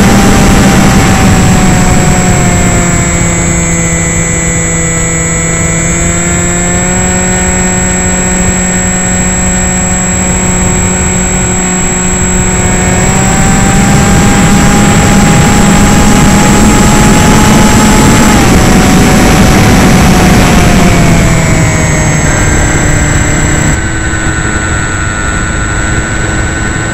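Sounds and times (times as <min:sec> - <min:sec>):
electric motor and propeller whining: 0:00.0 - 0:26.9.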